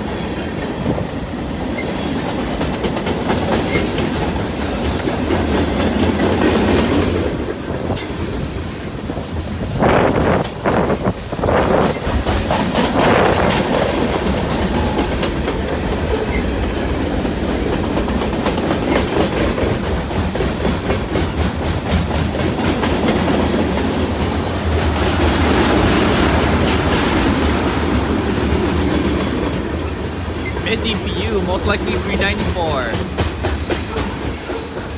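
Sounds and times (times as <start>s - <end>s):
train wheels clacking on rails: 0.0s - 34.9s.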